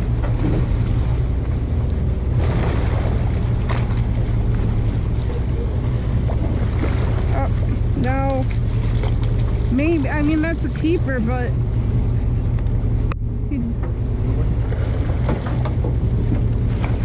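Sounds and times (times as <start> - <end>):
boat engine droning: 0.0 - 17.0
choppy sea water: 0.0 - 17.0.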